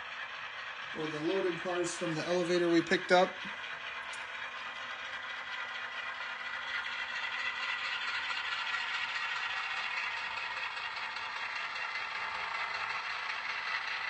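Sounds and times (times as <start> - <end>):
model train rolling on track: 0.0 - 14.0.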